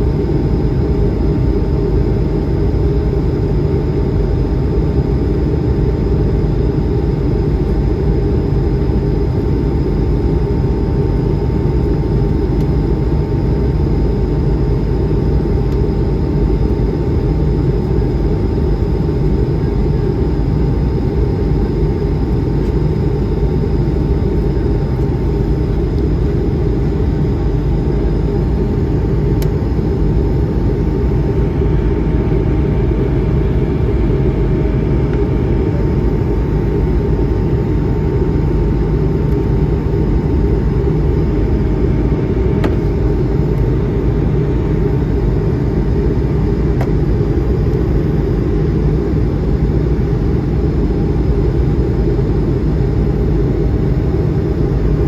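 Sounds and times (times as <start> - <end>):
airplane cabin engine roar: 0.0 - 55.0.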